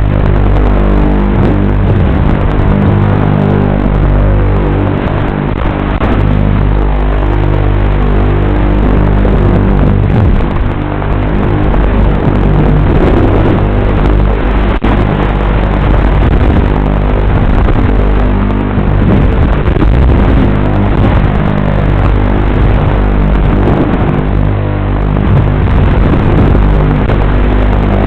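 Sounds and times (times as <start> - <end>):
drone motors buzzing: 0.0 - 28.0.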